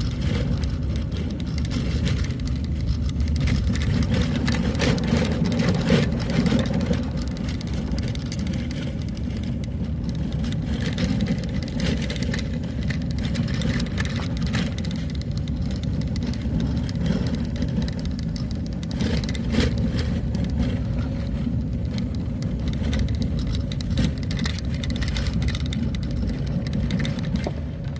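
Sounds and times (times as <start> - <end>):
small knocks and rattles: 0.0 - 27.9
vehicle engine and road rumble: 0.0 - 27.9.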